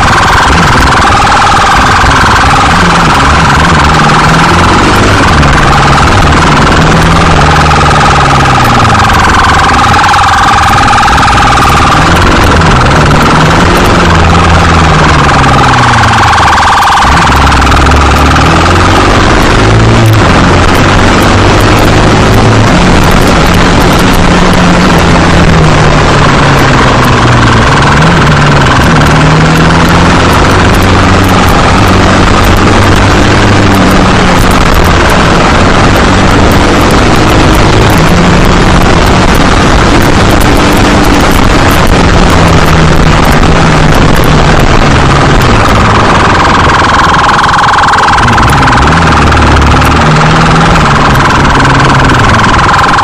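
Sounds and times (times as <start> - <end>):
motorcycle engine running hard: 0.0 - 53.0
wind rushing over microphone: 0.0 - 53.0.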